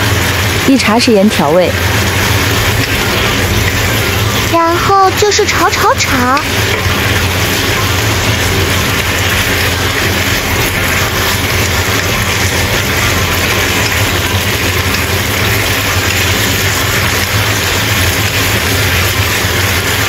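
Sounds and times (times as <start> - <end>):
food sizzling in a wok: 0.0 - 20.0
low hum: 0.0 - 20.0.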